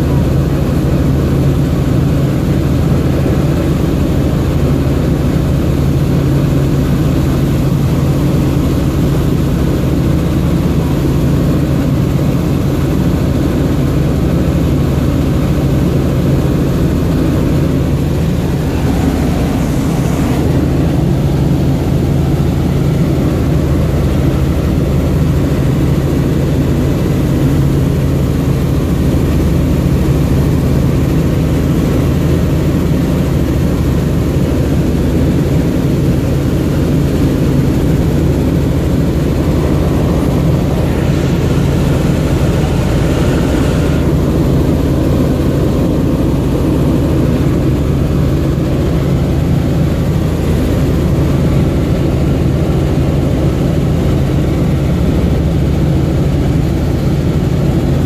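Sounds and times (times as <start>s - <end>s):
helicopter rotor and engine drone: 0.0s - 58.0s.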